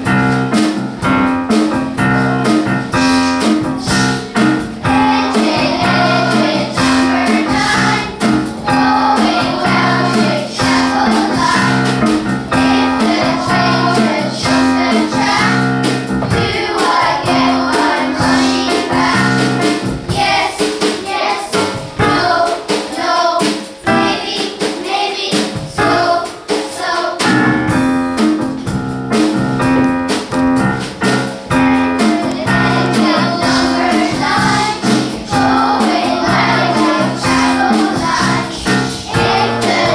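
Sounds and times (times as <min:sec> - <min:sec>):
instrumental backing with bass line: 0:00.0 - 0:20.5, 0:26.8 - 0:39.9
children's choir singing: 0:02.9 - 0:27.6, 0:31.5 - 0:39.9.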